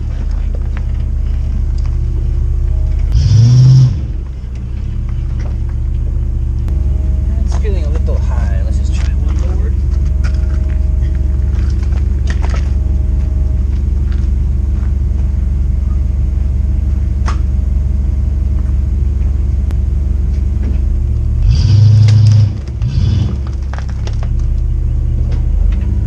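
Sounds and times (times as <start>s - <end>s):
engine and road drone: 0.0s - 26.0s.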